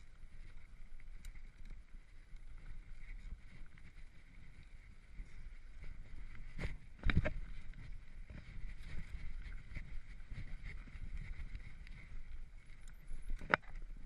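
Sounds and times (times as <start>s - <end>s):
bike rattling over bumps: 1.5s - 14.0s.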